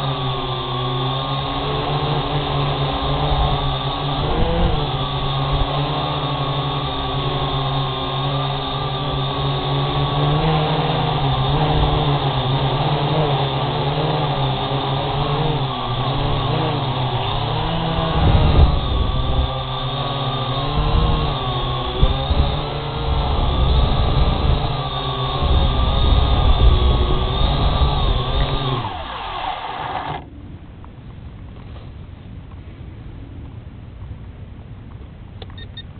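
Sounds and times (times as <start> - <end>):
quadcopter buzzing whine: 0.0 - 30.5.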